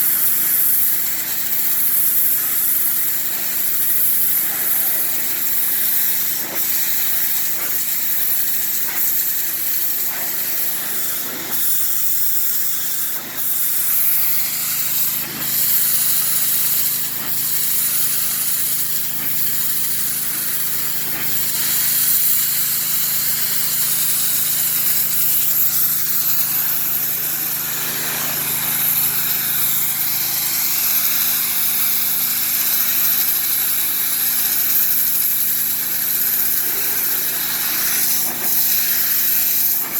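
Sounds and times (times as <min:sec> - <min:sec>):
pressure washer motor hum: 0:00.0 - 0:39.9
water spray hissing: 0:00.0 - 0:39.9.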